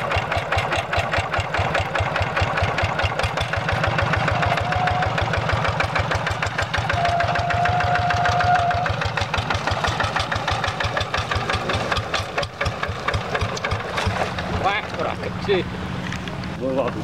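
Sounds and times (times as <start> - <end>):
single-cylinder diesel engine running: 0.0 - 17.0.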